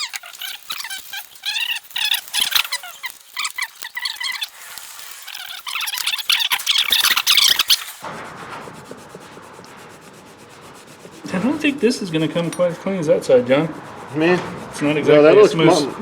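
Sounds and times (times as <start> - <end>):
squeaky scrubbing on metal: 0.0 - 16.0.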